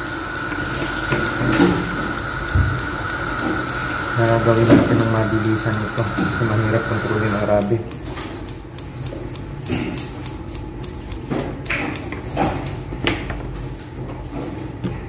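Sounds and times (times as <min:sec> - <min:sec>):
scissors snipping fur: 0:00.1 - 0:12.9.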